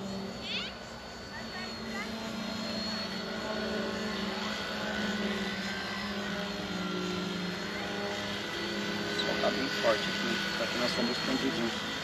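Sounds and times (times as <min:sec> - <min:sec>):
toy helicopter rotors whining: 0:00.0 - 0:12.0.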